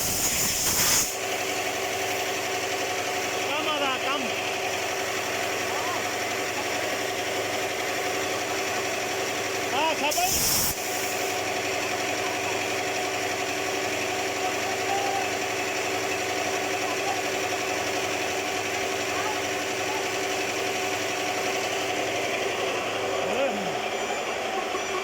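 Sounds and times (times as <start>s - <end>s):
motor humming steadily: 0.0s - 25.0s.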